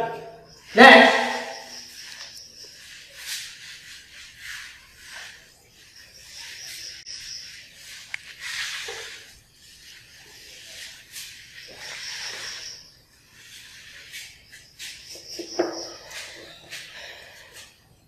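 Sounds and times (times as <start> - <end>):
duster rubbing on chalkboard: 2.0 - 16.9.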